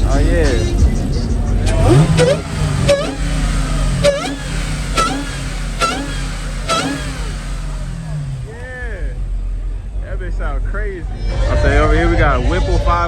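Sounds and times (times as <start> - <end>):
crackling exhaust blips: 0.0 - 13.0
loud car engine drone: 0.0 - 13.0.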